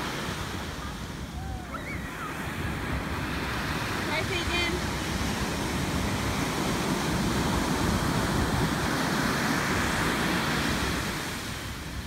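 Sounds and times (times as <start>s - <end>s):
ocean surf breaking on sand: 0.0s - 12.0s.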